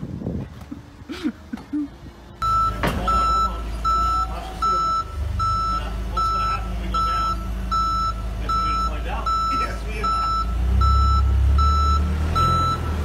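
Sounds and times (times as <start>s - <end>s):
forklift engine hum: 0.0s - 13.0s
forklift backup alarm beeping: 2.4s - 13.0s.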